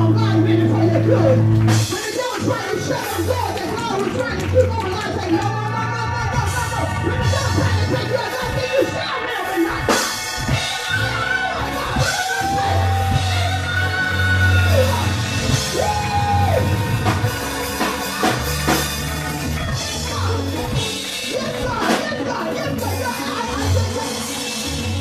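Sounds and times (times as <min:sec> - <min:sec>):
drums: 0:00.0 - 0:25.0
gospel church music: 0:00.0 - 0:25.0
heavy bass line: 0:00.0 - 0:25.0.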